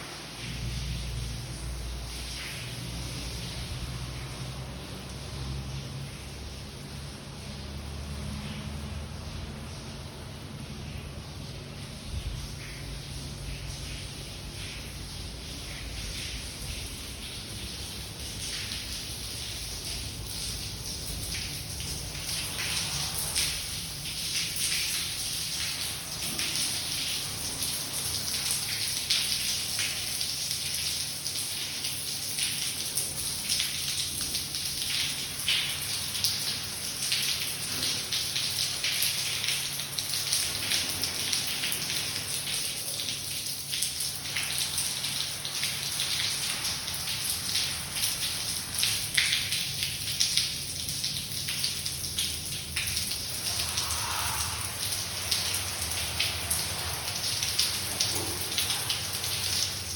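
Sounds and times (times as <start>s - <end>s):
water dripping and splashing: 0.0s - 59.9s.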